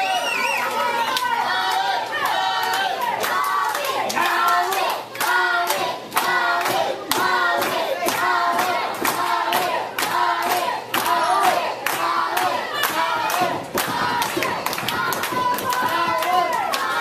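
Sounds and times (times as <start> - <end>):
crowd clapping in rhythm: 0.7 - 17.0
voices chanting: 0.8 - 17.0.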